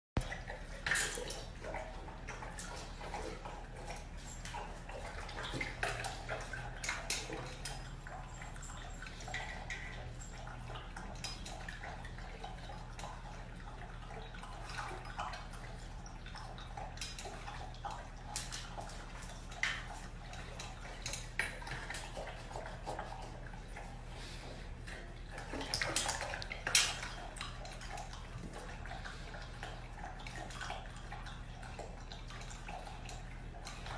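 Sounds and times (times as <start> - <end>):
dog lapping water: 0.2 - 33.9.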